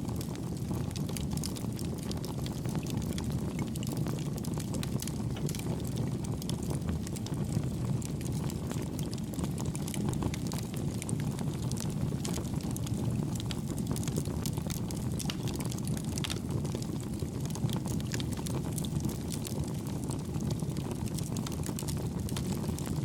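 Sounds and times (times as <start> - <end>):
burning wood crackling: 0.0 - 23.0
campfire flame rumble: 0.0 - 23.0.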